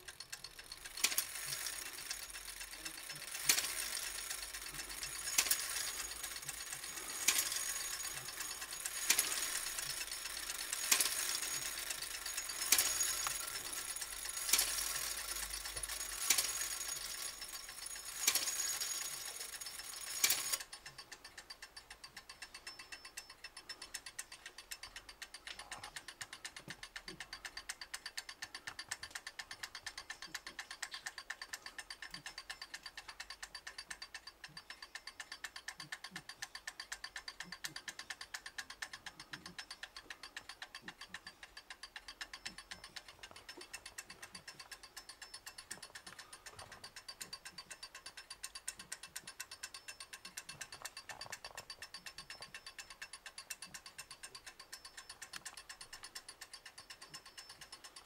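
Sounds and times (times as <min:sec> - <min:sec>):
clock ticking: 0:00.0 - 0:58.0
mechanical clatter: 0:00.0 - 0:58.0.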